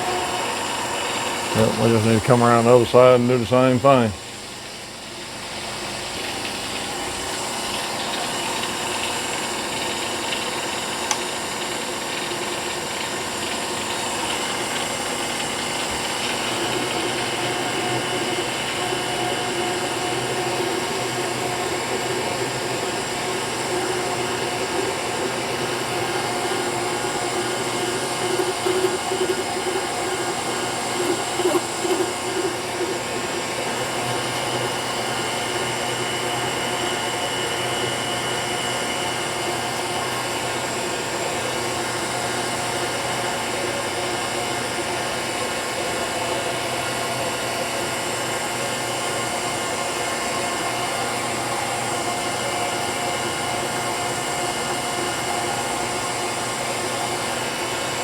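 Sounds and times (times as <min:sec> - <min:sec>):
milling machine cutting metal: 0:00.0 - 0:58.0.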